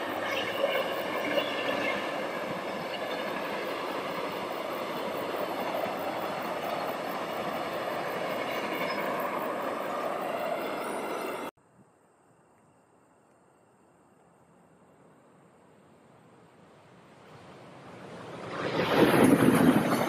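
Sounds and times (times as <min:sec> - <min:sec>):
train wheel and rail noise: 0:00.0 - 0:11.5, 0:14.8 - 0:20.0.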